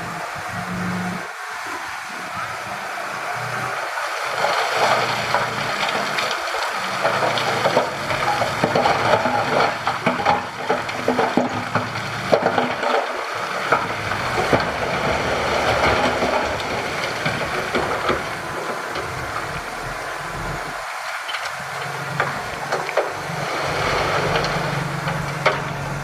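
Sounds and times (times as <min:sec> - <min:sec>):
diesel engine running: 0:00.0 - 0:26.0
stone and soil clattering: 0:04.2 - 0:26.0.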